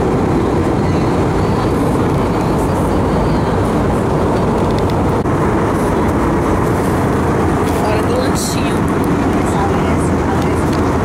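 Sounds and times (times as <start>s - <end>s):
airliner cabin engine noise: 0.0s - 11.0s.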